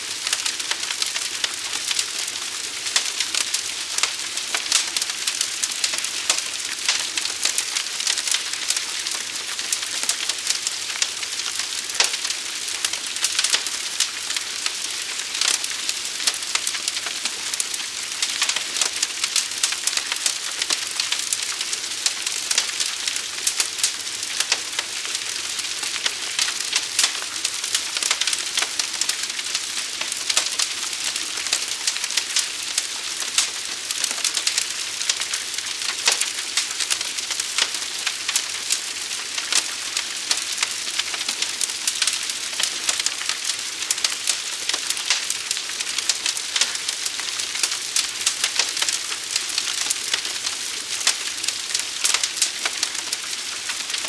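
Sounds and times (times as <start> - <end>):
fire hissing and crackling: 0.0 - 54.0.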